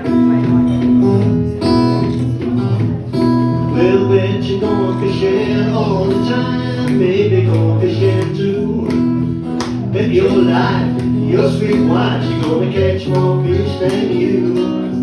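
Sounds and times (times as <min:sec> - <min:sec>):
acoustic blues guitar: 0:00.0 - 0:15.0
wavering guitar melody: 0:00.0 - 0:15.0.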